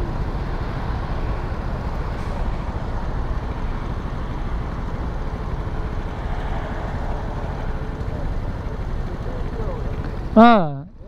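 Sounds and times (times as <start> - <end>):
motorcycle engine and wind roar: 0.0 - 11.0.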